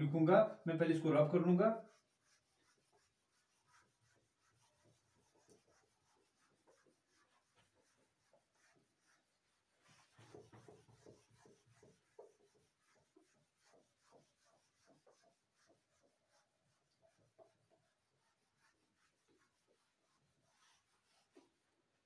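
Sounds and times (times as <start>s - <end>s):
duster wiping a whiteboard: 0.5s - 22.0s.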